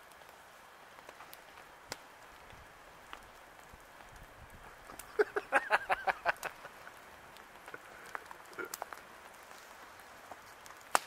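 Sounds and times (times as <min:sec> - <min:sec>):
light rain: 0:00.0 - 0:11.0
raindrops tapping: 0:00.0 - 0:11.0.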